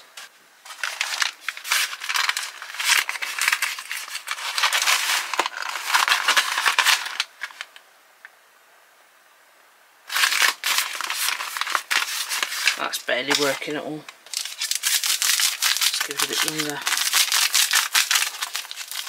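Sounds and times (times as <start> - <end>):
cardboard carton rustling: 0.2 - 7.6, 10.1 - 19.0.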